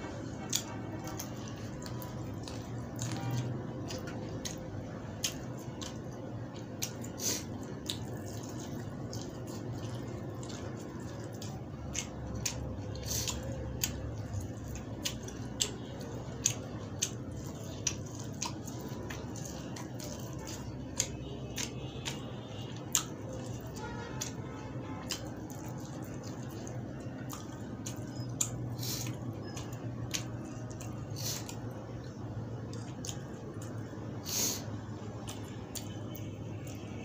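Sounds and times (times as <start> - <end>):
person chewing corn: 0.1 - 37.0.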